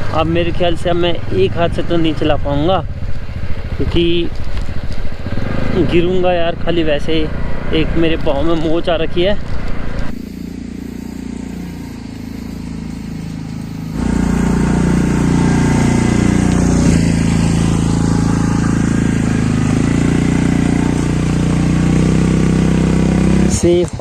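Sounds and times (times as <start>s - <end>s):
motorcycle engine under load: 0.0s - 24.0s.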